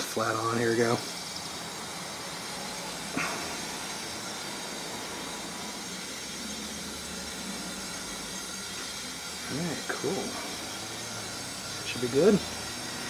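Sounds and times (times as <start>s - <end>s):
powder coating gun hissing: 0.0s - 13.0s.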